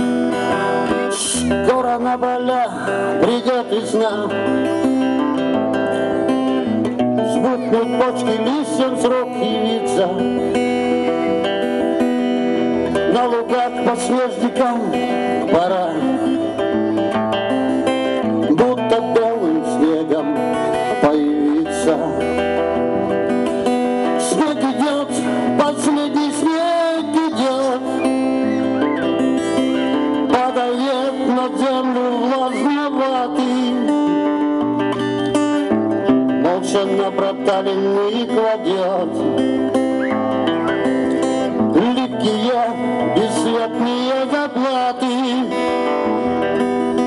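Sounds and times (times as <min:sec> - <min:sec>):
acoustic guitar: 0:00.0 - 0:47.0.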